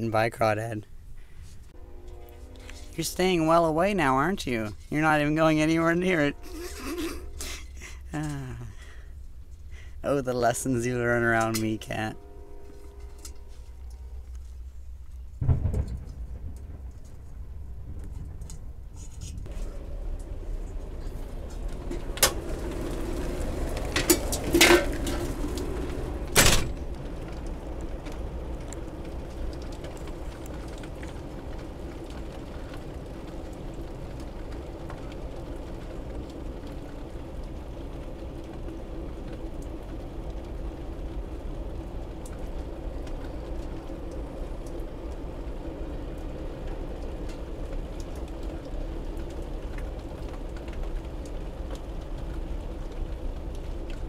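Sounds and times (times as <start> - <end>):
rain falling on pavement: 1.8 - 12.0, 12.6 - 54.0.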